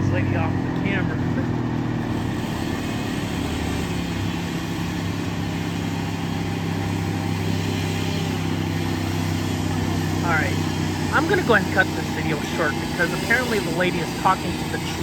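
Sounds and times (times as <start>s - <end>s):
wood chipper engine running: 0.0s - 15.0s.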